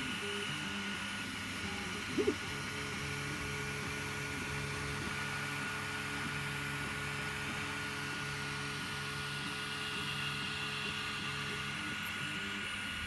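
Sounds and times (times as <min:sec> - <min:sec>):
cooling fans hissing and whining: 0:00.0 - 0:13.0.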